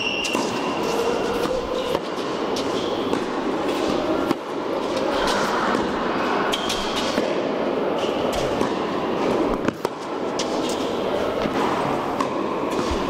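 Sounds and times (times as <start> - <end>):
tennis balls hit by rackets: 0.0 - 13.0.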